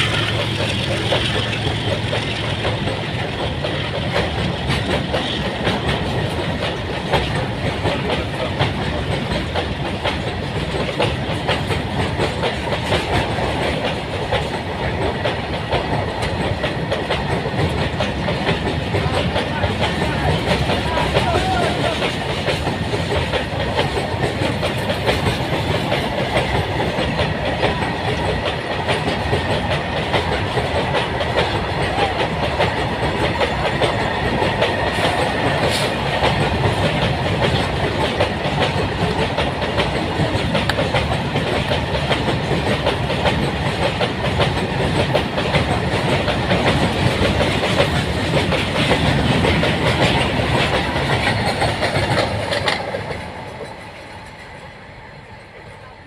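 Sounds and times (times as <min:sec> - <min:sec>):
wheels clattering over rail joints: 0:00.0 - 0:54.8
train wagons rolling over bridge: 0:00.0 - 0:56.0.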